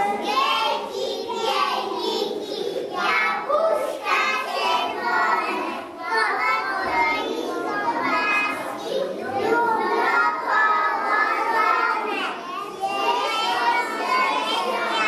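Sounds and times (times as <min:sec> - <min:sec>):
children reciting in unison: 0:00.0 - 0:15.0.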